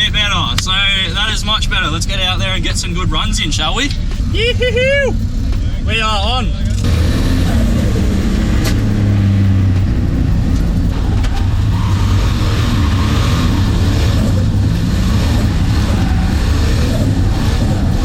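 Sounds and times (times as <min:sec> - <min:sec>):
car engine drone from inside cabin: 0:00.0 - 0:18.0.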